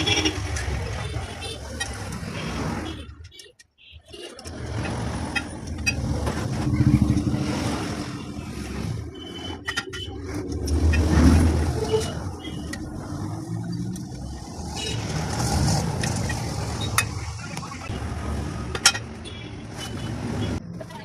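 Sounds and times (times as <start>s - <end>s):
traffic rumbling by: 0.0s - 21.0s.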